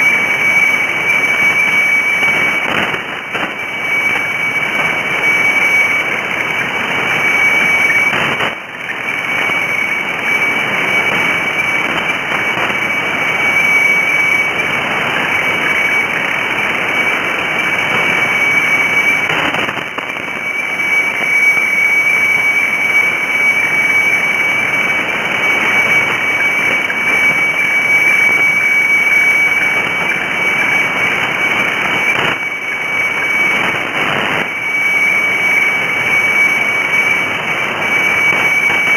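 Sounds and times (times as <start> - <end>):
radio static hiss: 0.0 - 38.9
steady high radio tone: 0.0 - 38.9.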